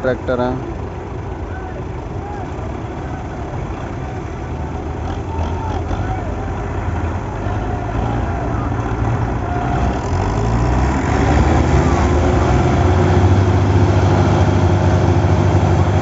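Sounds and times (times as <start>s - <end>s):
diesel tractors engine drone: 0.0s - 16.0s.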